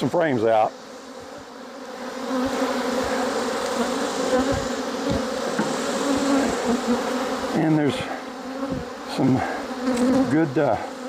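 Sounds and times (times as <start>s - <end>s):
swarm of bees buzzing: 0.0s - 11.0s.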